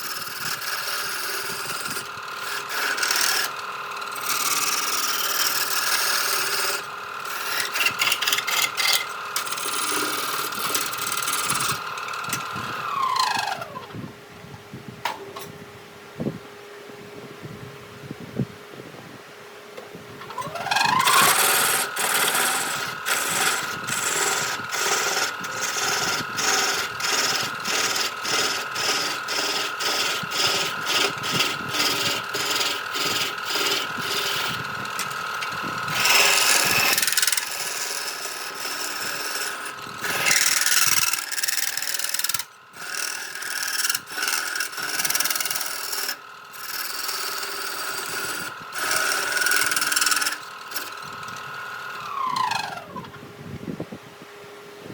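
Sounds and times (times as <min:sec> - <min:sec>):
scraping strokes on wood: 0:00.0 - 0:13.8, 0:20.2 - 0:51.5
power tool motor whining: 0:00.0 - 0:14.1, 0:19.8 - 0:53.8.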